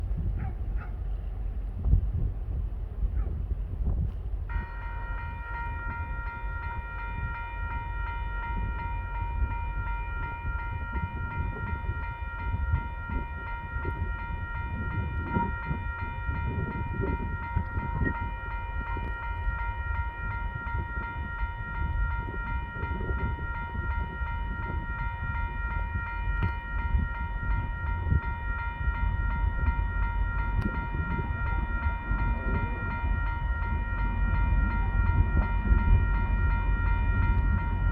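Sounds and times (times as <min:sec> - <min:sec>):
diesel locomotive rumble: 0:00.0 - 0:37.9
level crossing alarm tone: 0:04.5 - 0:37.9.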